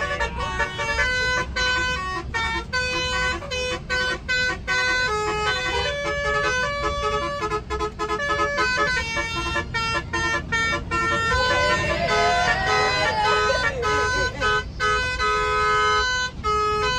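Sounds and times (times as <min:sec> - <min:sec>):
bus rumbling: 0:00.0 - 0:16.9
musical air horn tune: 0:00.0 - 0:16.9.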